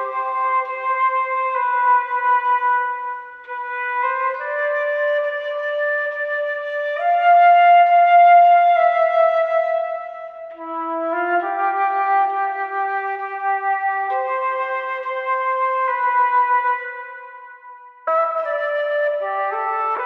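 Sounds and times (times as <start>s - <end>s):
flute playing slow hymn melody: 0.0s - 20.0s.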